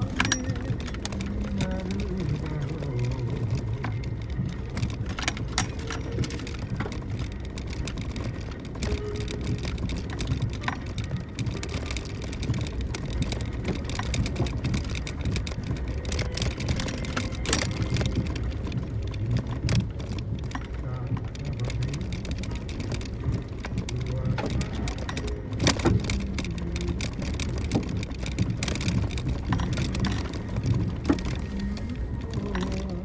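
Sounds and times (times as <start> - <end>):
engine and tyres rumbling: 0.0 - 33.0
parts rattling: 0.0 - 33.0.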